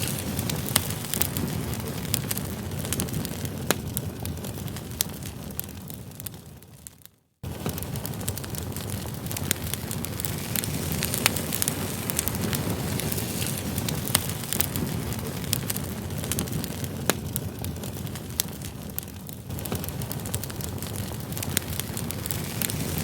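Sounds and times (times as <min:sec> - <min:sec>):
campfire rumbling: 0:00.0 - 0:23.0
fire crackling and popping: 0:00.0 - 0:23.0.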